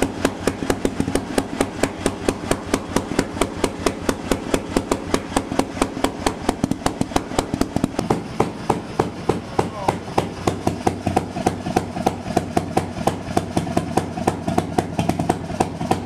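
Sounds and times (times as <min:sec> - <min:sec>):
engine exhaust bangs: 0:00.0 - 0:16.0.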